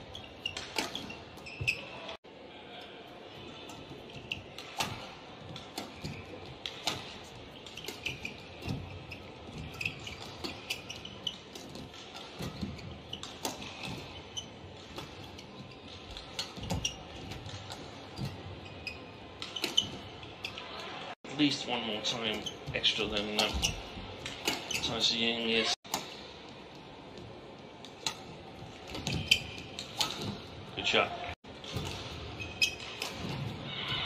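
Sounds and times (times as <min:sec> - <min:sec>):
shoes squeaking: 0:00.0 - 0:02.2, 0:03.2 - 0:34.0.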